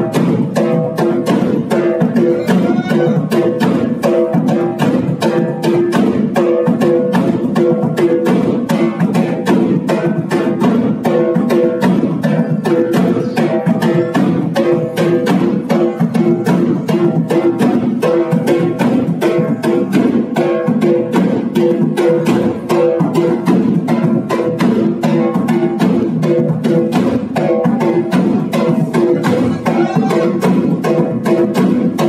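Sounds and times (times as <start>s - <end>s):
fast steady beat: 0.0s - 32.0s.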